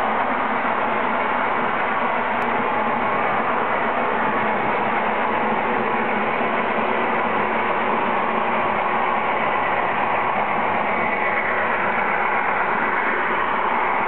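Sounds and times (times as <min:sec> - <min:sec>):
diesel engine sound: 0:00.0 - 0:14.0
model train wheels rumbling: 0:00.0 - 0:14.0.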